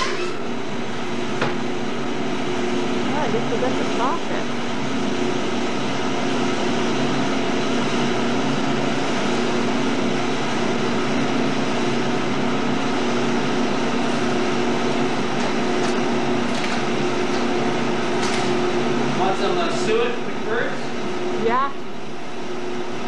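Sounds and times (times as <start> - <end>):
meat band saw humming: 0.0 - 23.0.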